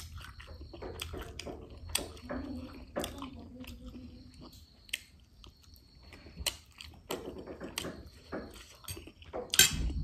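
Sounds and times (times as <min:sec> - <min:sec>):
chewing noodles: 0:00.0 - 0:10.0.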